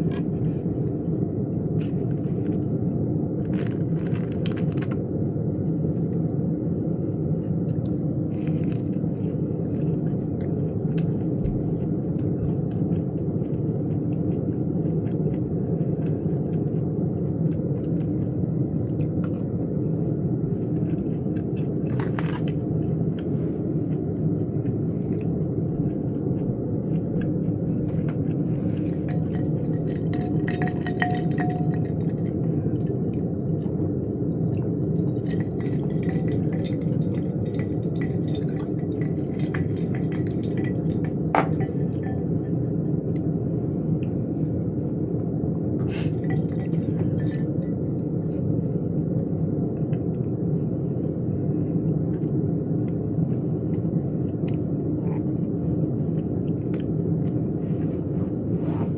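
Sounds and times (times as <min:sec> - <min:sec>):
chewing and eating: 0:00.0 - 0:51.3, 0:52.0 - 0:58.4
low rumble: 0:00.0 - 0:58.9.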